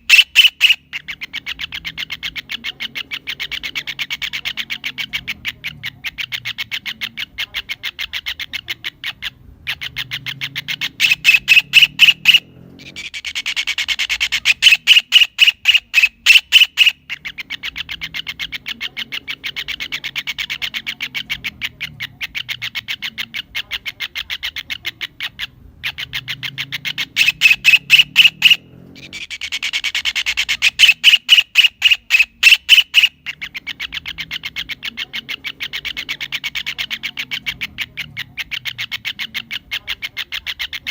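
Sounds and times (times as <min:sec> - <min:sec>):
kingfisher calling: 0:00.0 - 0:40.9.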